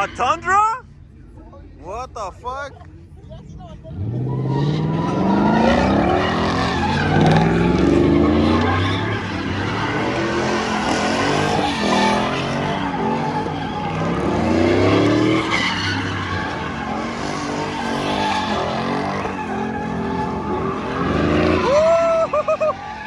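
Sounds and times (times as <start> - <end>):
truck engines revving: 0.0 - 23.0.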